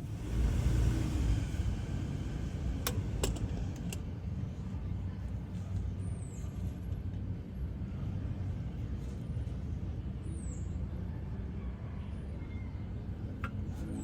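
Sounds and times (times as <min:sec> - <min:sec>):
low vehicle rumble: 0:00.0 - 0:11.3.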